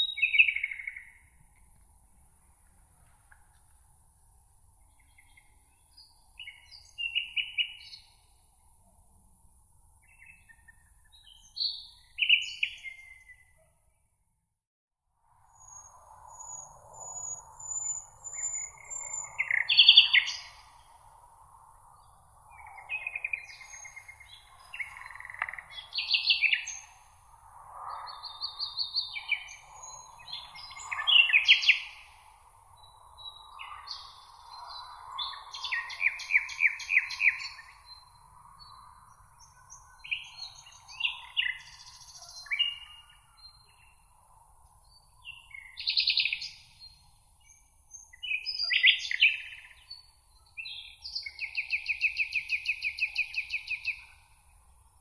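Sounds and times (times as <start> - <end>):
songbirds singing: 0.0 - 1.8, 4.7 - 8.5, 9.9 - 13.8, 15.6 - 55.0.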